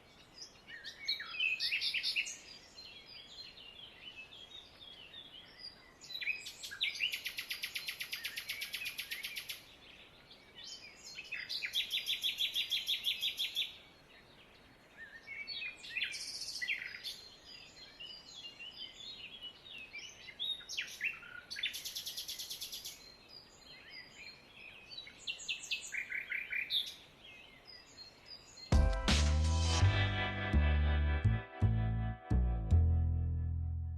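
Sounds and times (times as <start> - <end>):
small birds chirping: 0.0 - 28.8.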